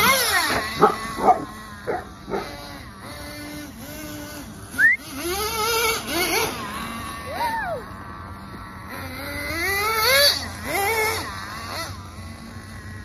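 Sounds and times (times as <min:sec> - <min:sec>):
small nitro engine whine: 0:00.0 - 0:13.0.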